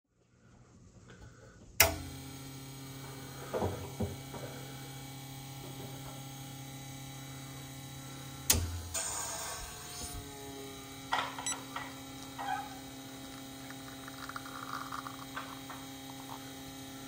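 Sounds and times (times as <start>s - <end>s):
espresso machine pump humming: 1.9s - 17.0s.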